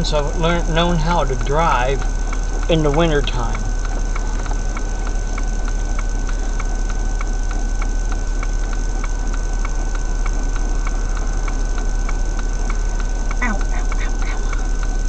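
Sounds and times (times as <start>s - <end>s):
low hum: 0.0s - 15.0s
thin high electrical whine: 0.0s - 15.0s
car turn signal clicking: 0.4s - 15.0s.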